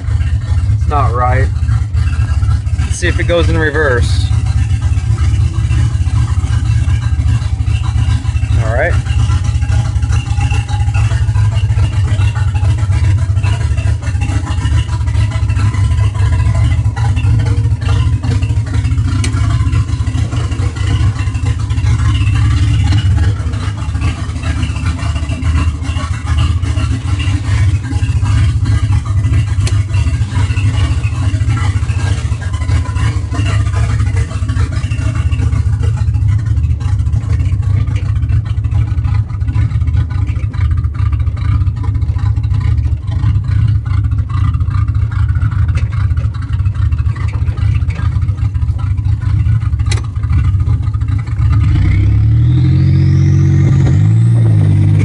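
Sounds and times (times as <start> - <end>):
car engine idling rough: 0.0 - 55.0
car engine revving: 0.0 - 55.0.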